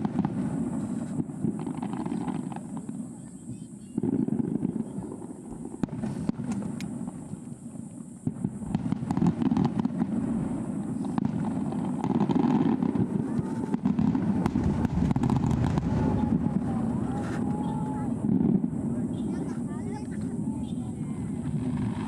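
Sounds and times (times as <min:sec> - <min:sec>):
firework crackles: 0:00.0 - 0:22.0
low rumble of firework bursts: 0:00.0 - 0:22.0.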